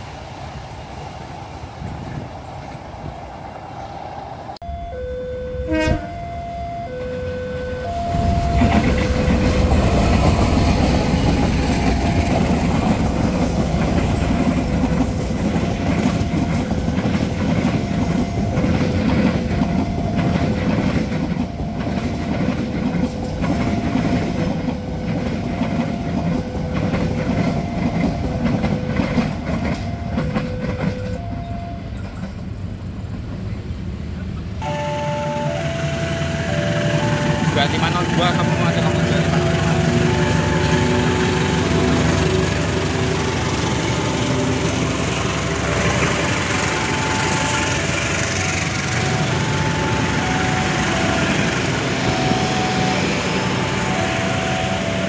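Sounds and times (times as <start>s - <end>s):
train rumble and wheel clatter: 0.0s - 55.0s
level crossing two-tone alarm: 4.6s - 12.6s, 15.4s - 31.9s, 34.6s - 55.0s.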